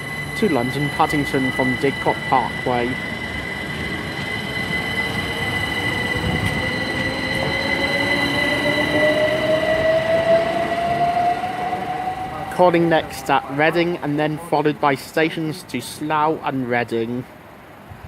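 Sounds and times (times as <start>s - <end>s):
train running rumble: 0.0s - 15.1s
electric train traction whine: 0.0s - 15.2s
steady high-pitched tones: 0.0s - 16.8s.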